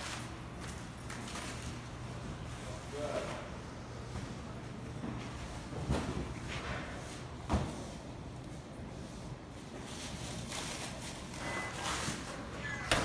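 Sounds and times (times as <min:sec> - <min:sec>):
footstep scuffs and rustles: 0:00.0 - 0:12.8.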